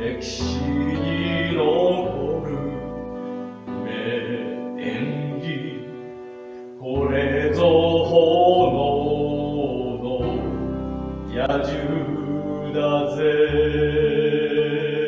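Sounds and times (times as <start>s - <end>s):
musical theatre backing music: 0.0s - 15.0s.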